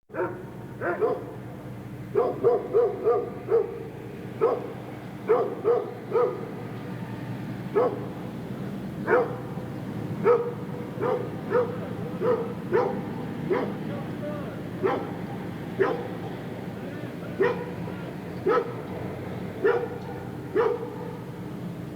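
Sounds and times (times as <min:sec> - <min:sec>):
large dogs barking: 0:00.1 - 0:07.0, 0:07.6 - 0:21.9
low background hum: 0:00.1 - 0:21.9.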